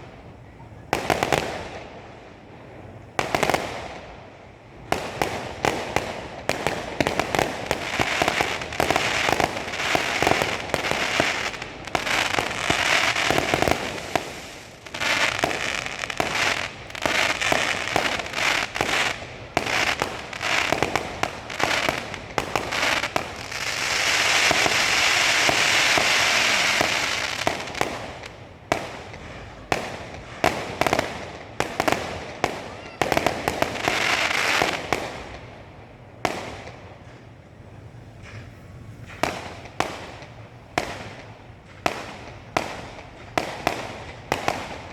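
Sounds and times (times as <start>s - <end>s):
fireworks bangs and pops: 0.0s - 44.9s
fireworks crackling hiss: 0.0s - 44.9s.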